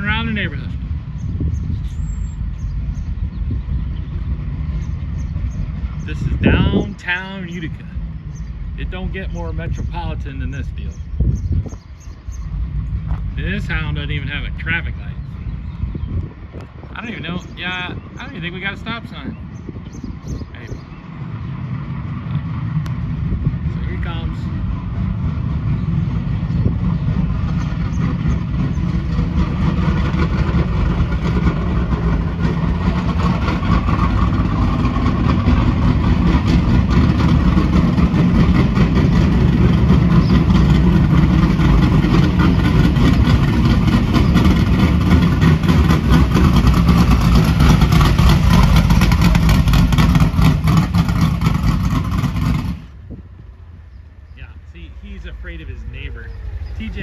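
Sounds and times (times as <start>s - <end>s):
race car engine low throttle: 0.0s - 57.0s.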